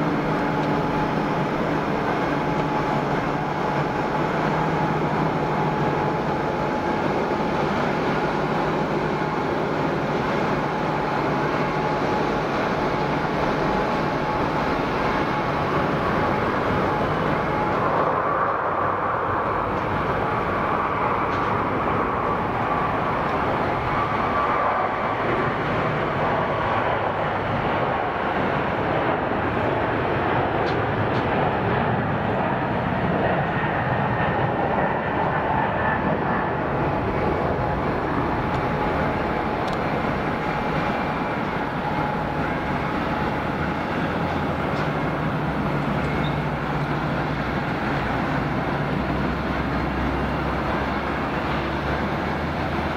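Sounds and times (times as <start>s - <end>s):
jet engines at takeoff power: 0.0s - 52.9s.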